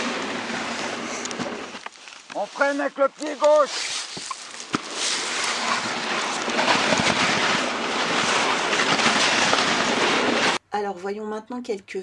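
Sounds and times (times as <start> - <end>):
sled runners hissing over snow: 0.0 - 10.6.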